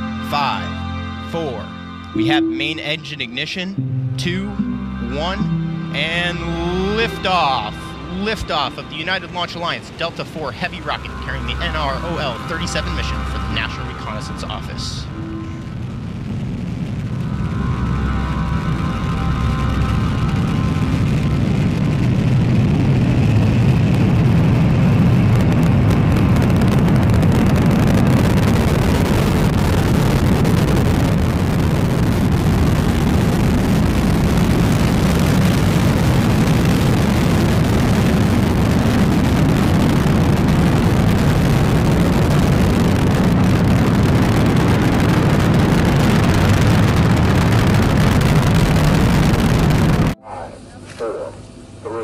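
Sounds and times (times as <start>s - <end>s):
rocket engines rumbling: 4.6s - 50.8s.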